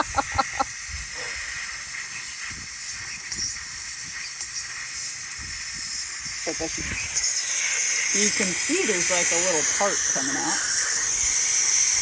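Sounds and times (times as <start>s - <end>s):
air hissing from tire valve: 0.0s - 12.0s.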